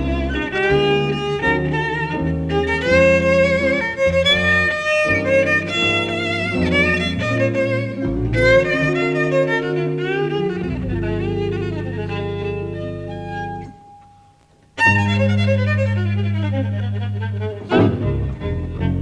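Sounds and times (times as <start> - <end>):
walking double bass: 0.0 - 13.8, 14.8 - 19.0
jazz violin melody: 0.0 - 19.0.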